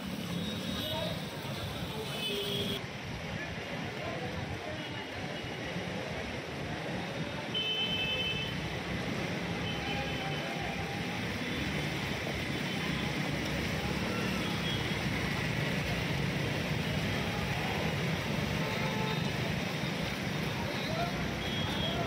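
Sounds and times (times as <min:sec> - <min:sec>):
traffic through water: 0:00.0 - 0:22.0.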